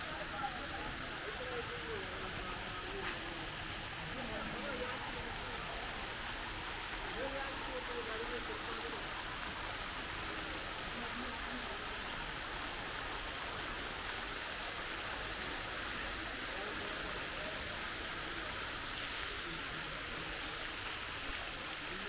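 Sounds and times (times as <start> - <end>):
fountain jets splashing into pool: 0.0 - 22.0.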